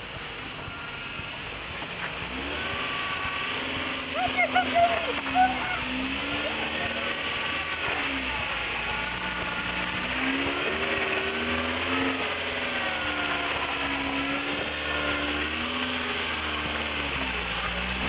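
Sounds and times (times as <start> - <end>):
motor running: 0.0 - 18.0.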